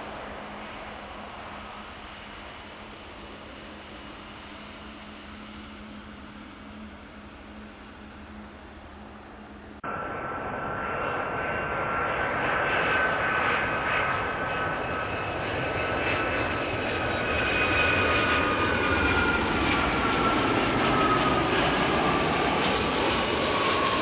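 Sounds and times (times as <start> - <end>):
distant jet noise: 0.0 - 24.0
jet engines rushing and whining: 0.0 - 24.0.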